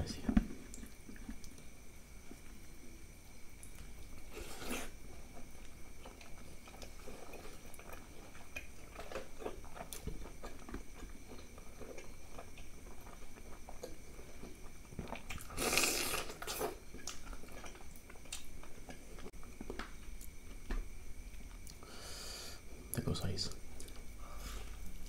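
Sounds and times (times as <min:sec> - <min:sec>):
chewing and wet mouth sounds: 0:00.6 - 0:20.6, 0:23.8 - 0:25.0.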